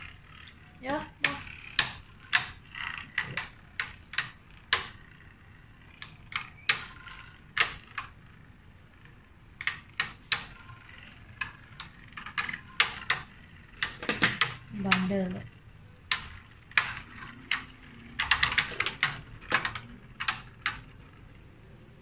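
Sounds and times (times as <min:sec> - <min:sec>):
spinning tops clashing: 0:00.0 - 0:21.4.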